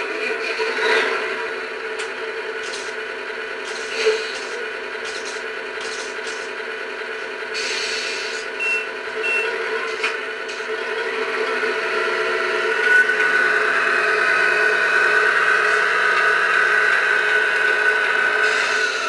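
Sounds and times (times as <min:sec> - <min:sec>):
model truck motor whine: 0:00.0 - 0:19.0.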